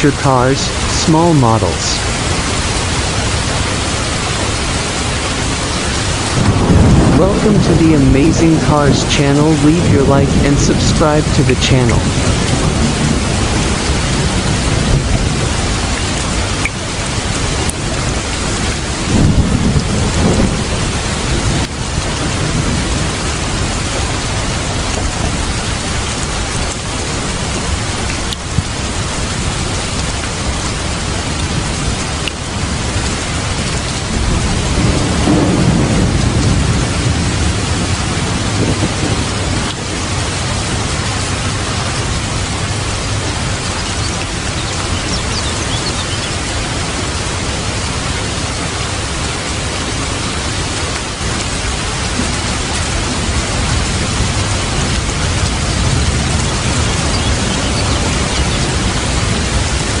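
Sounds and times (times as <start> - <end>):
heavy rain hiss: 0.0 - 60.0
thunder rumble: 0.0 - 60.0.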